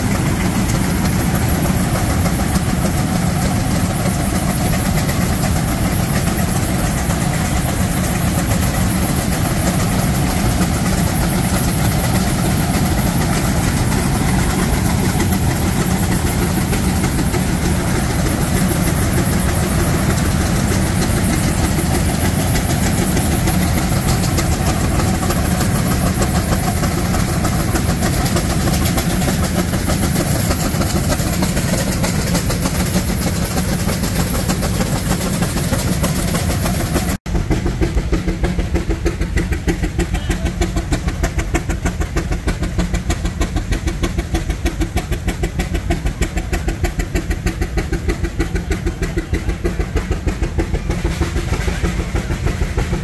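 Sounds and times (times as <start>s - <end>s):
engine exhaust beats: 0.0s - 53.0s
engine mechanical clatter: 0.0s - 53.0s.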